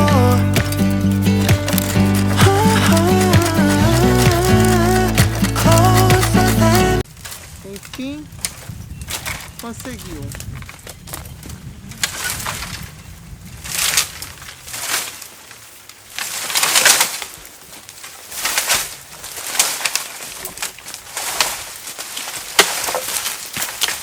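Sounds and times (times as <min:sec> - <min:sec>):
bamboo and branches rustling: 0:00.0 - 0:24.0.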